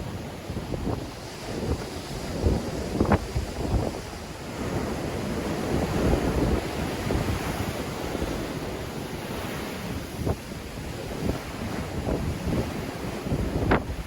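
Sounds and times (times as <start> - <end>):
sea waves breaking: 0.0 - 14.0
wind buffeting microphone: 0.0 - 14.0.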